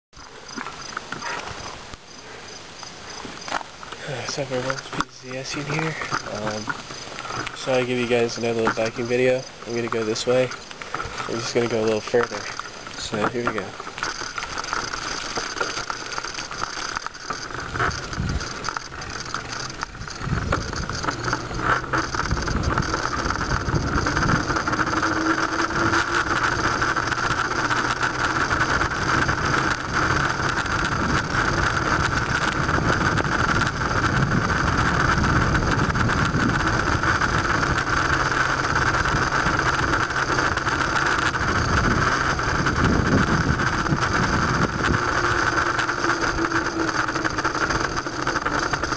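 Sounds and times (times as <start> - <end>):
bicycle rattling: 0.2 - 48.9
rumbling wind noise on microphone: 4.4 - 48.9.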